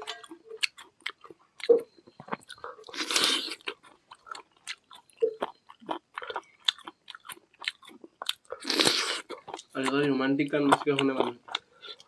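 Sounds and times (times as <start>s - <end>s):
chewing and mouth smacking: 0.0s - 12.0s.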